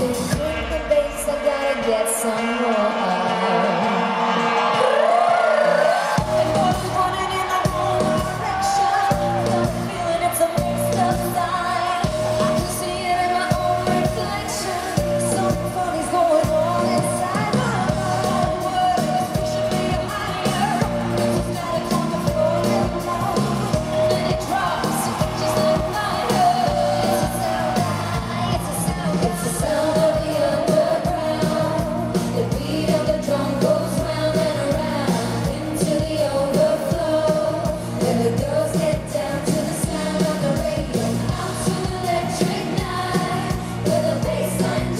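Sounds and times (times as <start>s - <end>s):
amplified pop band: 0.0s - 44.9s
women singing: 4.7s - 44.9s.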